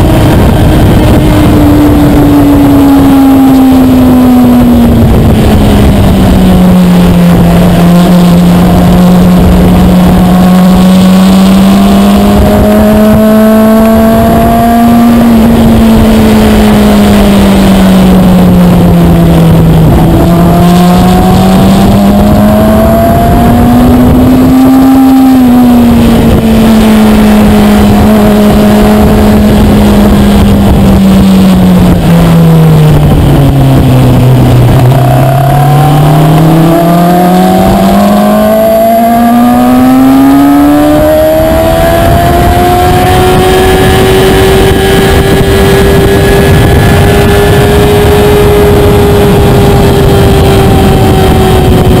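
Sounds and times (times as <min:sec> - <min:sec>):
motorcycle engine revving: 0:00.0 - 0:52.0
wind rush on microphone: 0:00.0 - 0:52.0.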